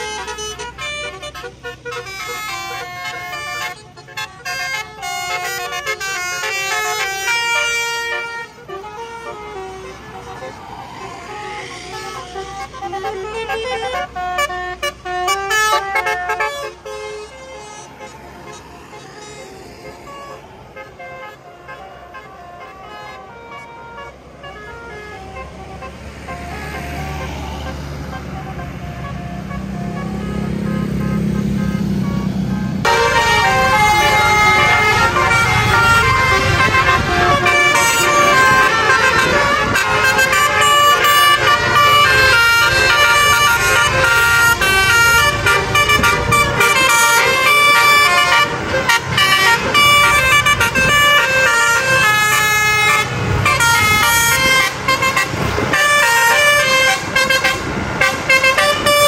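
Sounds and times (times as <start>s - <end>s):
bus engine rumbling: 0.0s - 59.0s
musical air horns playing: 0.0s - 59.0s.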